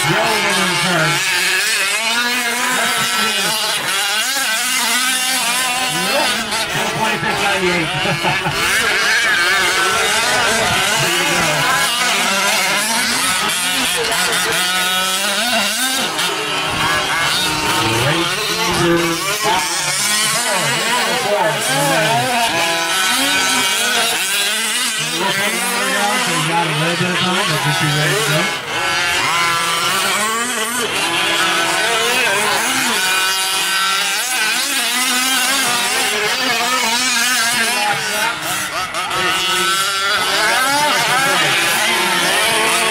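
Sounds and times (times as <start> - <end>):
two-stroke engines revving: 0.0 - 42.9.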